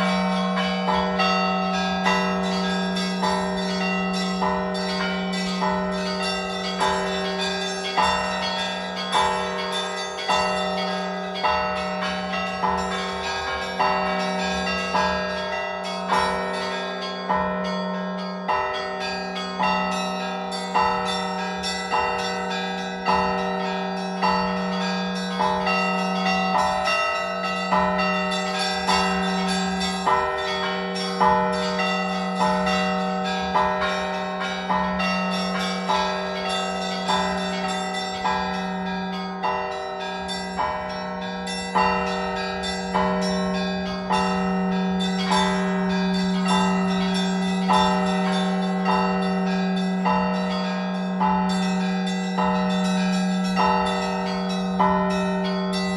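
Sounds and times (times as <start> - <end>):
deep bell humming: 0.0 - 55.9
higher bells struck: 0.0 - 55.9.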